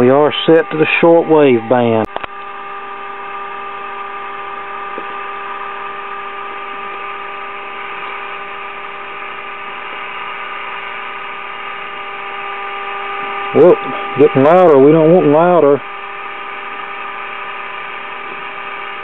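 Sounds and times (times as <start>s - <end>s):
buzzy test tone from radio speaker: 0.0s - 19.0s
radio hiss: 0.0s - 19.0s.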